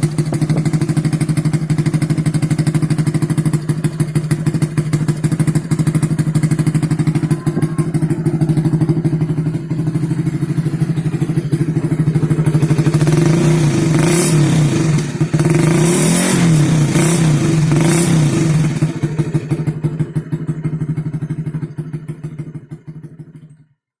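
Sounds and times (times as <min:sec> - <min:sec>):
motorcycle throttle blips: 0:00.0 - 0:23.4
motorcycle engine idling: 0:00.0 - 0:23.8.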